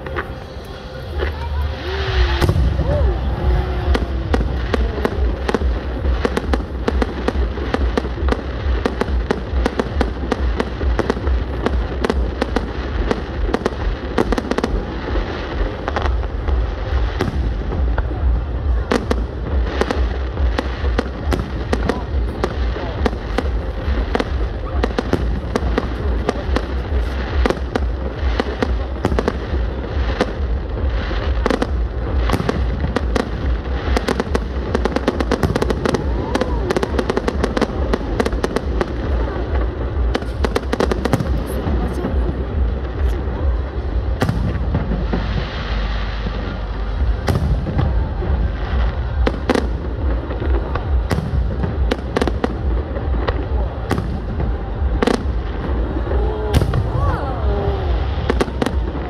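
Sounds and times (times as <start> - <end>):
fireworks bursting and crackling: 0.0 - 59.0
low booming: 0.0 - 59.0.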